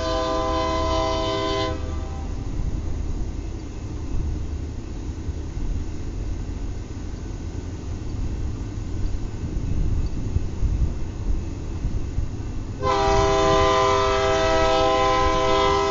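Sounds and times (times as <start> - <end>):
diesel locomotive rumbling: 0.0 - 15.9.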